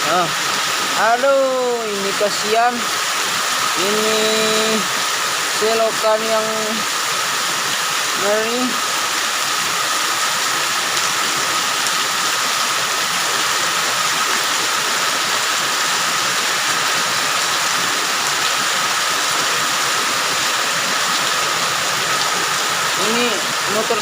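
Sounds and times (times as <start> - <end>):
water rushing through drain: 0.0 - 24.0.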